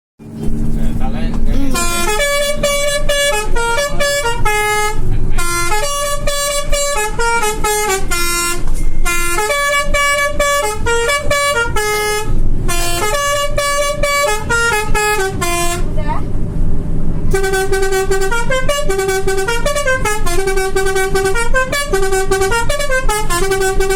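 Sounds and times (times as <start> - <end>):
musical bus horn tune: 0.2 - 16.2, 17.3 - 23.9.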